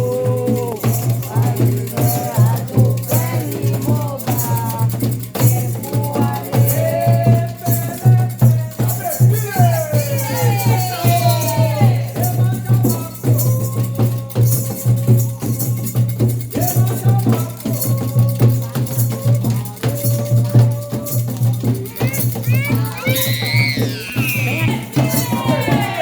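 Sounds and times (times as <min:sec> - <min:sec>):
percussion: 0:00.0 - 0:26.0
shaken rattle beat: 0:00.0 - 0:26.0
voices singing a chant: 0:00.0 - 0:26.0.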